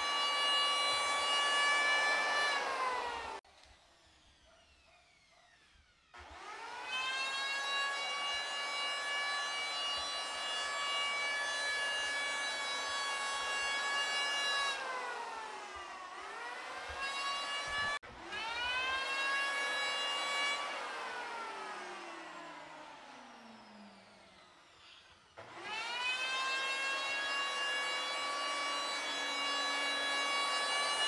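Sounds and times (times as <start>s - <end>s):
electric hand planer whining: 0.0s - 3.4s, 5.6s - 31.0s.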